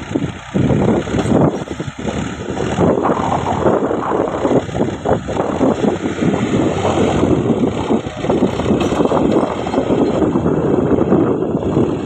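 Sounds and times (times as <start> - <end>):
tractor diesel engine labouring: 0.0 - 12.0.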